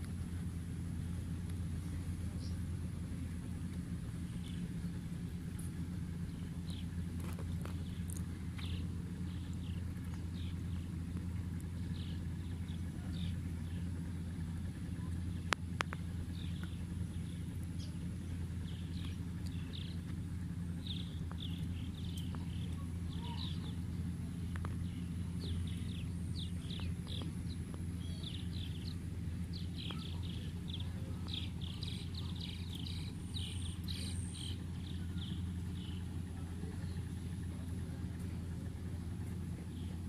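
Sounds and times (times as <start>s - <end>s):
vehicle engine droning: 0.0s - 40.0s
birds chirping: 1.3s - 40.0s.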